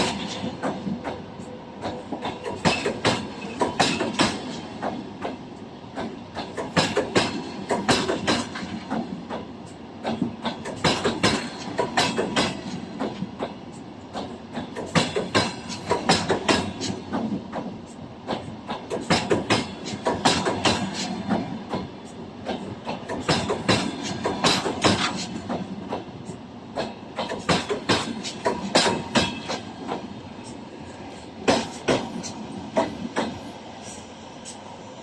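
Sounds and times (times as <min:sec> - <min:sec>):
train wheels clacking over rail joints: 0:00.0 - 0:34.7
train rumble: 0:00.0 - 0:35.0.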